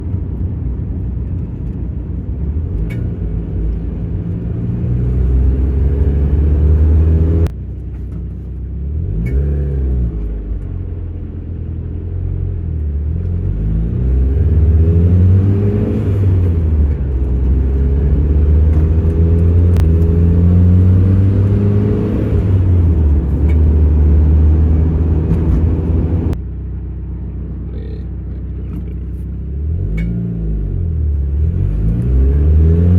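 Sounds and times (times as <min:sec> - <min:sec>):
car engine revving: 0:00.0 - 0:07.5, 0:08.8 - 0:26.4, 0:27.5 - 0:32.9.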